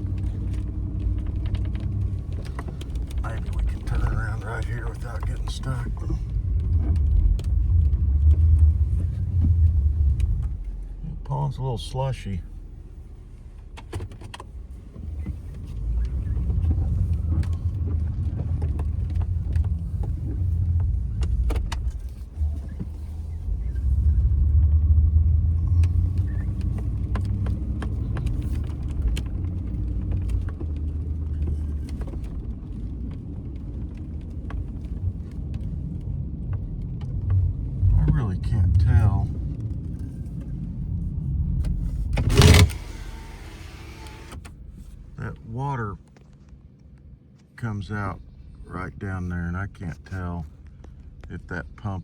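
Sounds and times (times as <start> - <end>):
truck engine rumbling: 0.0 - 45.9.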